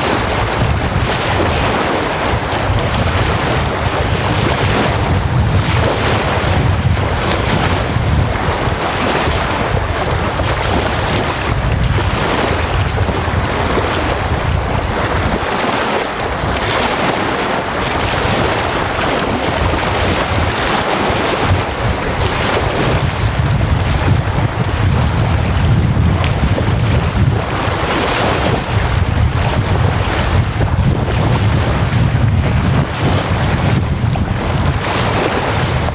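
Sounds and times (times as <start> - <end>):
waves washing on sandy beach: 0.0 - 35.9
wind buffeting microphone: 0.0 - 35.9.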